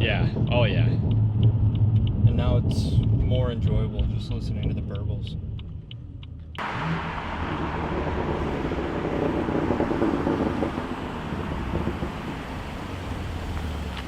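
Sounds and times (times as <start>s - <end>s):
wind buffeting microphone: 0.0s - 5.9s, 6.6s - 14.0s
car exhaust deep rumble: 0.0s - 14.0s.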